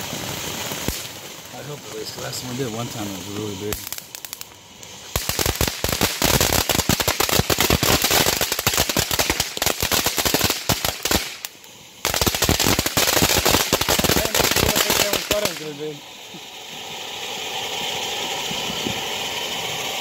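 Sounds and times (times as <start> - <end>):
firework fountain crackling: 0.0 - 20.0.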